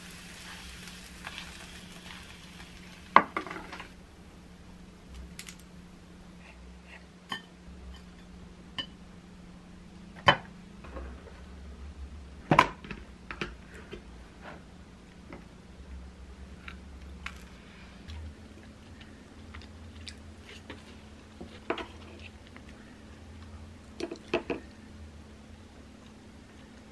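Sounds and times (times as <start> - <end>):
faint low hum: 0.0 - 26.9.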